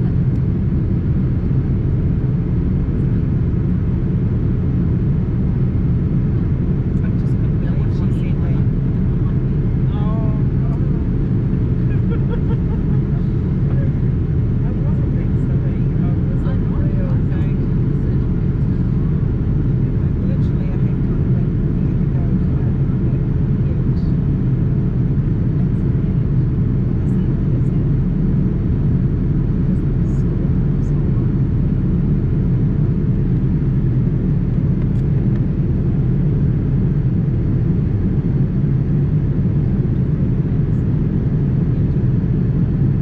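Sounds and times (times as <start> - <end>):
airplane cabin engine rumble: 0.0 - 43.0.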